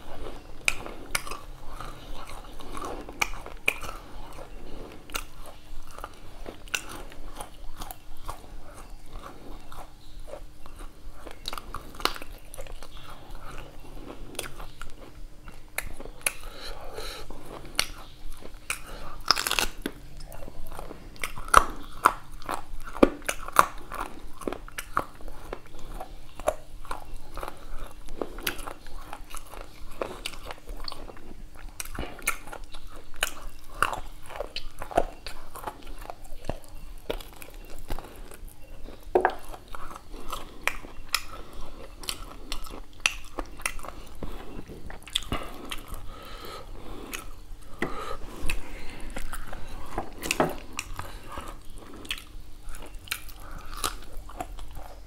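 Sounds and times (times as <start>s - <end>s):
person chewing with wet smacks: 0.0s - 55.0s.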